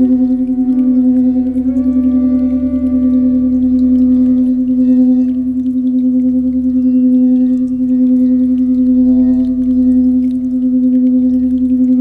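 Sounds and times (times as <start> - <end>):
singing bowl tone: 0.0 - 12.0.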